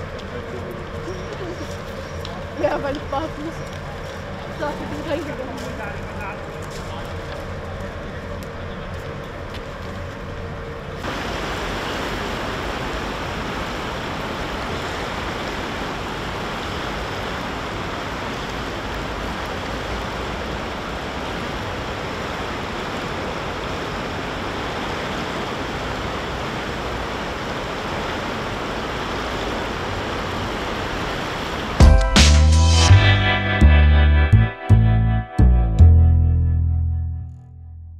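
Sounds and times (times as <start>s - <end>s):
river water rushing: 0.0s - 31.8s.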